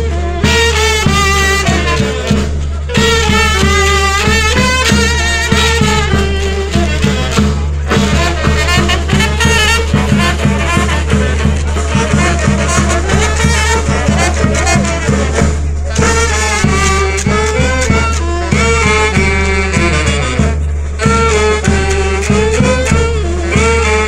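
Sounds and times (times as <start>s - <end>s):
steady drum beat: 0.0s - 24.0s
wind instruments playing melody: 0.0s - 24.0s.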